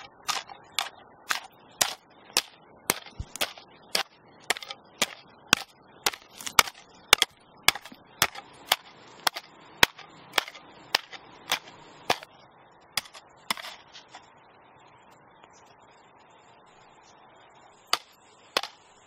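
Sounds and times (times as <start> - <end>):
faint background hiss: 0.0 - 19.0.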